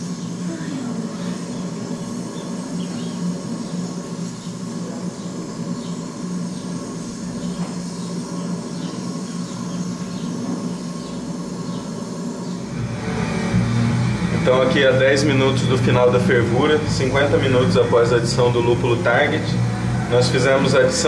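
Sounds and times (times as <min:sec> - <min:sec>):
gas burner and boil rumble: 0:00.0 - 0:21.0.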